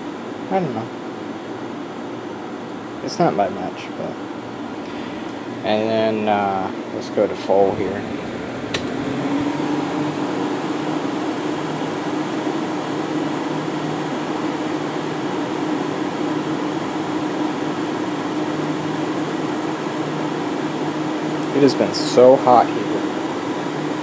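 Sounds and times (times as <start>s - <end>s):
air conditioner fan running: 0.0s - 24.0s.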